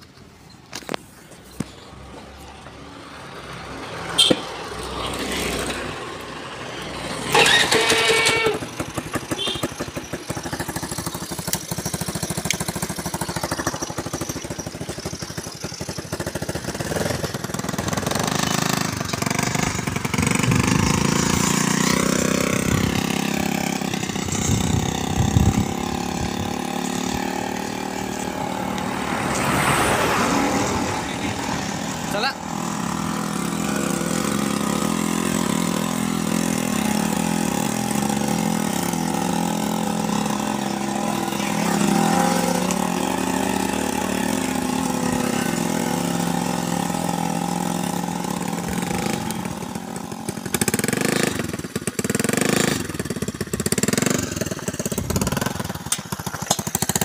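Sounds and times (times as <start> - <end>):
scooter engine running: 0.1 - 57.0.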